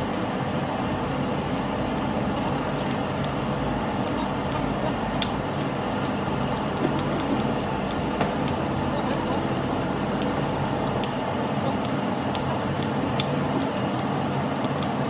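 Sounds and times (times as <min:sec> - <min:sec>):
low hum: 0:00.0 - 0:13.6
rushing machine noise: 0:00.0 - 0:15.0.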